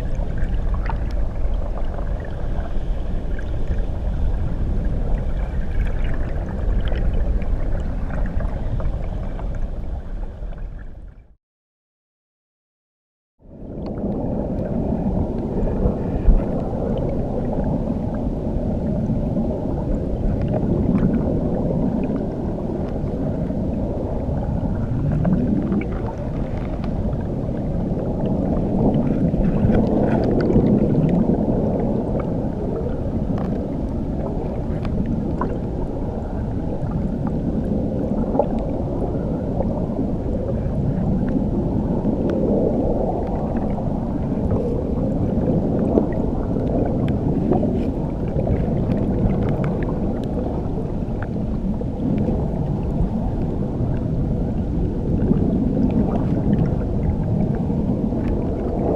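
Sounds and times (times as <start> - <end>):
underwater waterfall rumble: 0.0 - 11.4, 13.4 - 58.9.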